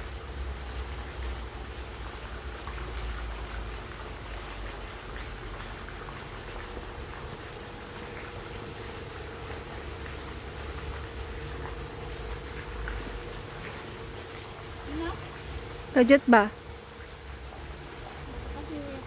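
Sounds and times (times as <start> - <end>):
faint steady hum: 0.0 - 19.0
outdoor noise hiss: 0.0 - 19.0.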